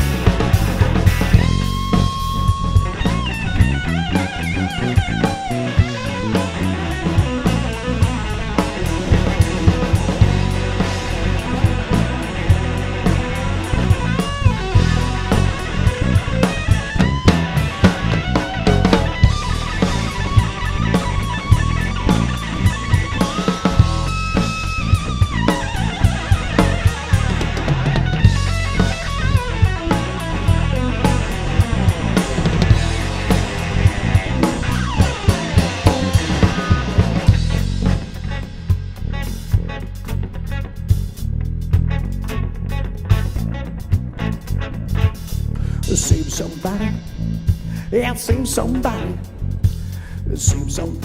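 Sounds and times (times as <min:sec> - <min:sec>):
bass guitar: 0:00.0 - 0:51.0
drum kit: 0:00.0 - 0:51.0
lead guitar bending notes: 0:00.0 - 0:51.0
rock band playing: 0:00.0 - 0:51.0.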